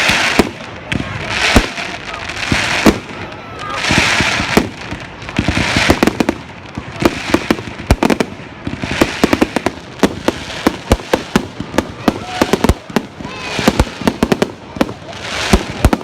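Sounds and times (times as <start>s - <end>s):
fireworks bangs: 0.0s - 16.0s
fireworks hiss: 0.0s - 16.0s.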